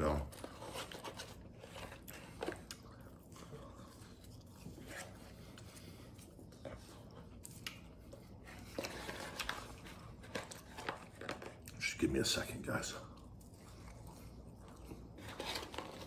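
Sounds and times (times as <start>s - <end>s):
man chewing fries: 0.1s - 11.9s, 12.9s - 16.0s.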